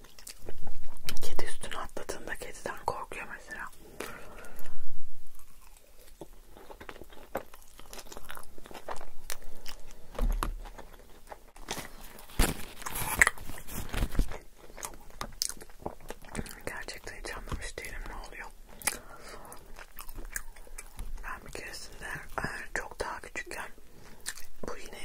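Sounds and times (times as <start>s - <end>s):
close chewing with wet mouth sounds: 0.0s - 25.0s.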